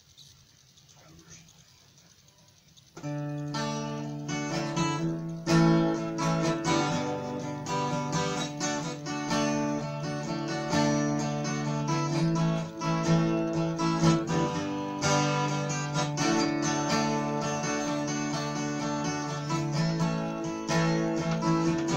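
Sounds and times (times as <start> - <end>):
acoustic guitar strumming chords: 3.0 - 21.9.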